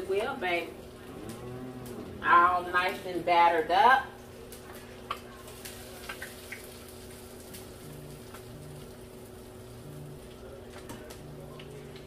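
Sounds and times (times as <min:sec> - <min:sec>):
faint hiss and hum: 0:00.0 - 0:12.0.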